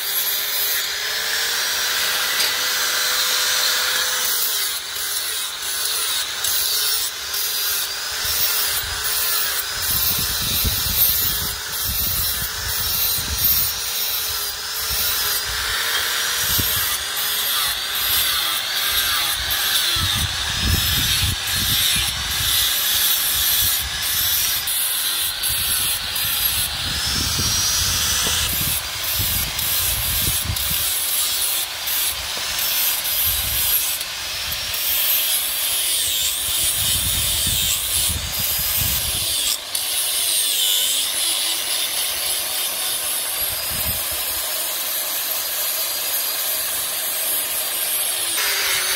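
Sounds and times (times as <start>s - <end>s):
angle grinder grinding steel: 0.0s - 48.9s.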